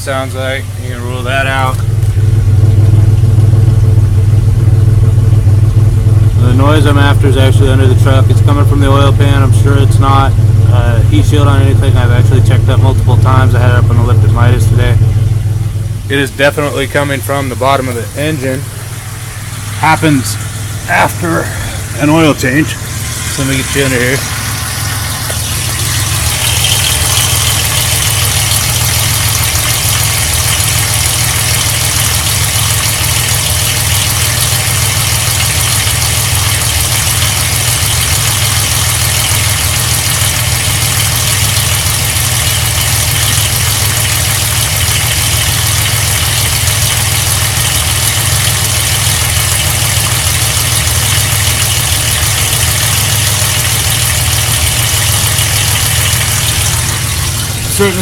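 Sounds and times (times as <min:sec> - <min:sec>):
car engine idling: 0:00.0 - 0:58.0
noise from bottom of engine: 0:00.0 - 0:58.0.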